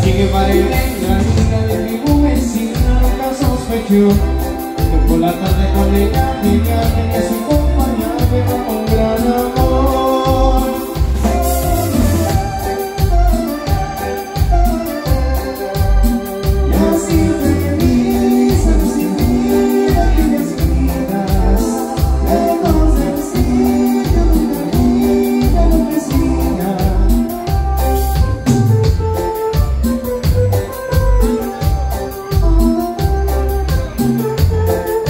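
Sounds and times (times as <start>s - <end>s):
electric bass: 0.0s - 35.0s
electric guitar: 0.0s - 35.0s
organ keyboard melody: 0.0s - 35.0s
steady drum beat: 0.0s - 35.0s.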